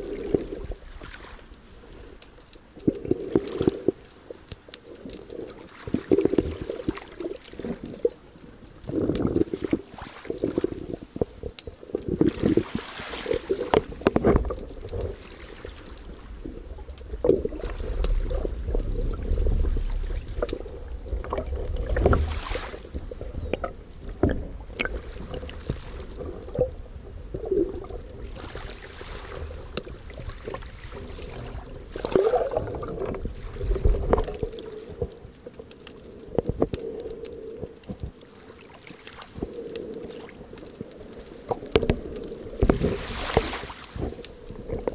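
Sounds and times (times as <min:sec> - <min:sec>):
water rushing underwater: 0:00.0 - 0:44.9.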